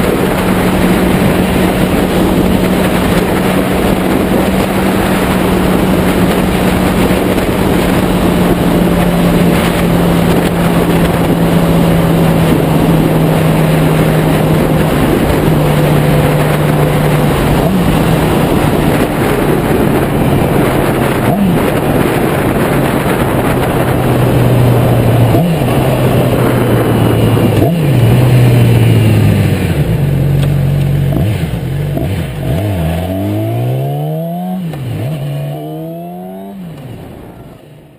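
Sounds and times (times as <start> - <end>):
motorcycle engine revving: 0.0 - 37.9
wind buffeting microphone: 0.0 - 37.9.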